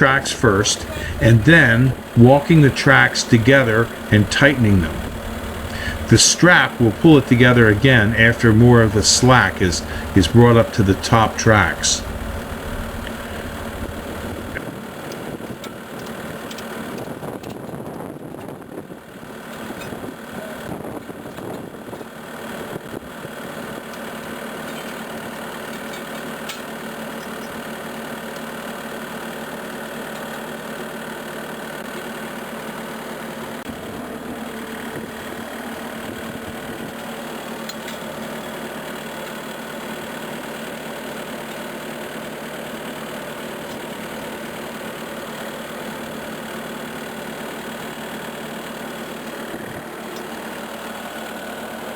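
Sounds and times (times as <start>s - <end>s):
skid steer engine running: 0.0s - 51.9s.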